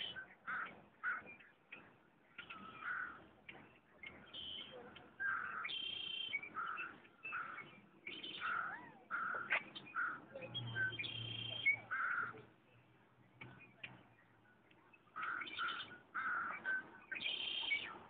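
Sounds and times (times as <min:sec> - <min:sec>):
birds calling and singing: 0:00.0 - 0:18.0.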